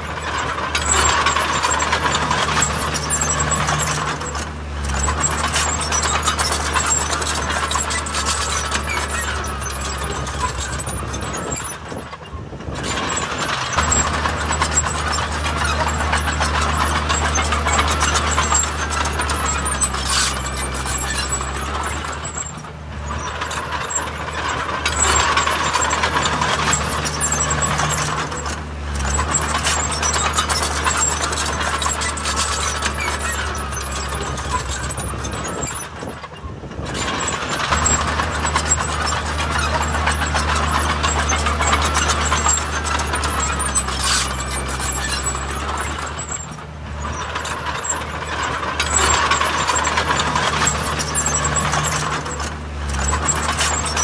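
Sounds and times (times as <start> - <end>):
diesel machinery engine: 0.0 - 54.0
mechanical clatter: 0.0 - 54.0.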